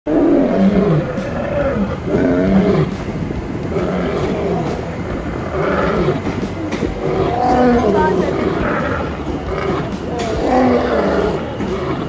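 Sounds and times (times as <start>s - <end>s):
lion growling and roaring: 0.1s - 12.0s.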